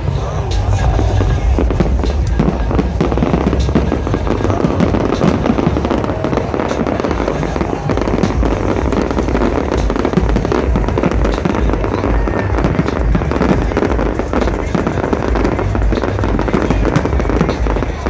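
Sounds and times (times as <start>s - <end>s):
deep booming rumble: 0.0s - 18.0s
fireworks bangs and crackling: 0.0s - 18.0s.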